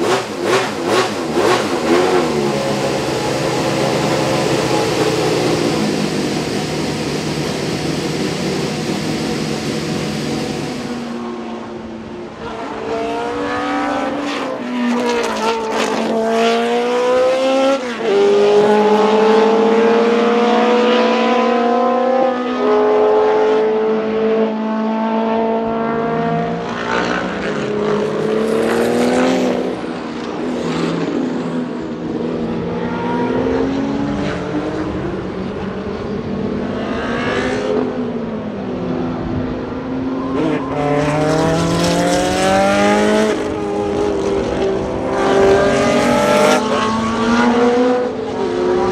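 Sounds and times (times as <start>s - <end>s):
race car engine accelerating: 0.0s - 11.8s, 12.4s - 38.2s, 40.2s - 48.9s.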